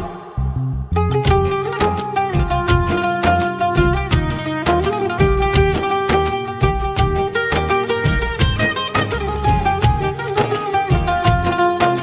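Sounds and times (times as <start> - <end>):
instrumental film music: 0.0 - 12.0.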